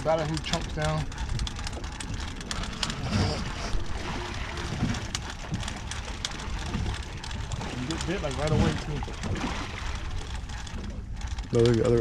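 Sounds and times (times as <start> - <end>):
gear clicking and knocking: 0.0 - 12.0
water sloshing around boat: 0.0 - 12.0
wind buffeting microphone: 0.0 - 12.0.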